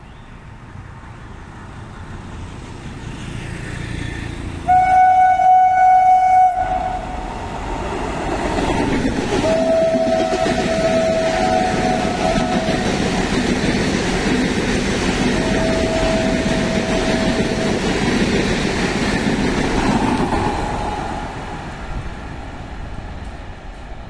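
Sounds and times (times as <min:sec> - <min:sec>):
train wheels rumbling on rails: 0:01.7 - 0:24.0.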